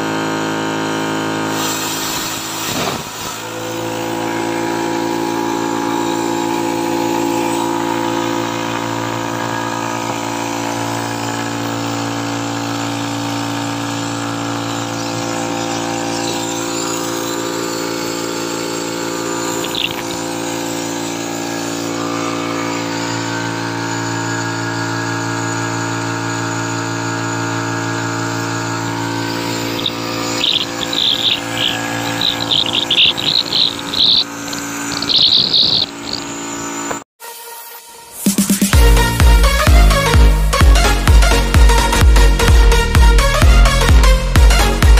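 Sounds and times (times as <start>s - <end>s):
air compressor humming: 0.0s - 37.0s.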